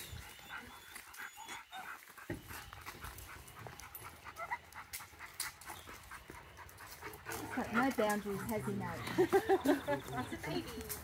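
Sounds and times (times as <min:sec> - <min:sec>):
dogs panting: 0:00.0 - 0:11.0.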